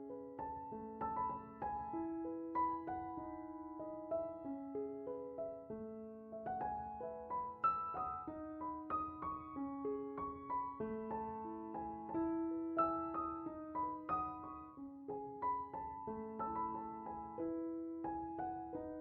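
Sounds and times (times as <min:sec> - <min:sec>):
gentle solo piano melody: 0:00.0 - 0:19.0.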